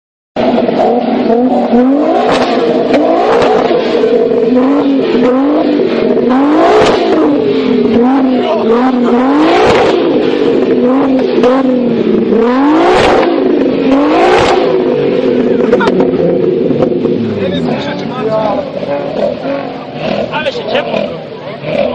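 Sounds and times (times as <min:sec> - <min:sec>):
car engine revving: 0:00.4 - 0:21.9
exhaust backfire bangs: 0:00.4 - 0:21.9.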